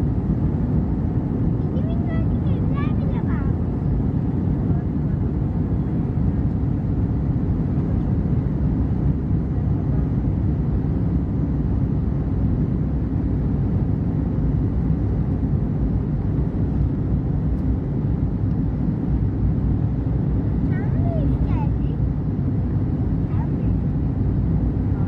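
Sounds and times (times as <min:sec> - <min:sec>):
airplane cabin engine drone: 0:00.0 - 0:25.0.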